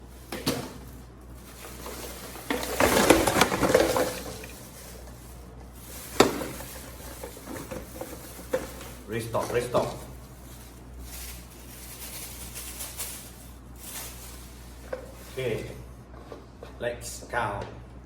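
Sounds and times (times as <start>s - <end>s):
rustling and crackling: 0.0s - 16.5s.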